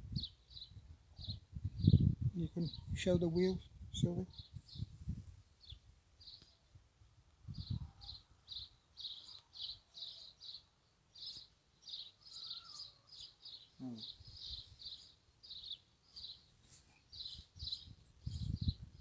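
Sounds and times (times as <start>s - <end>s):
small bird chirping: 0.1s - 3.5s, 4.2s - 6.8s, 7.5s - 19.0s.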